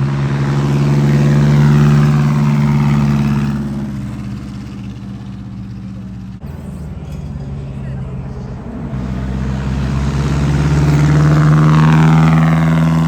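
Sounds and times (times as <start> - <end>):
quieter engine noise: 0.0 - 13.0
race car engine passing: 0.0 - 13.0.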